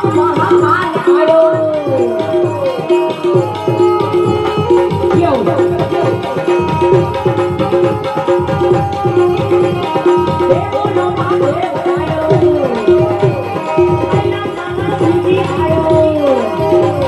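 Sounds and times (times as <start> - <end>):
harmonium: 0.0 - 17.0
tabla playing fast rhythm: 0.0 - 17.0.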